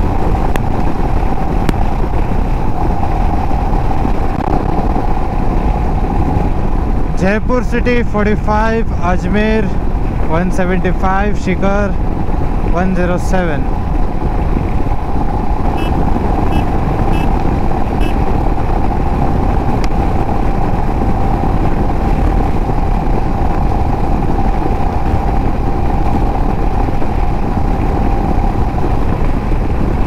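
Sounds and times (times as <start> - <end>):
motorcycle engine drone: 0.0 - 30.0
road noise: 0.0 - 30.0
wind noise: 0.0 - 30.0.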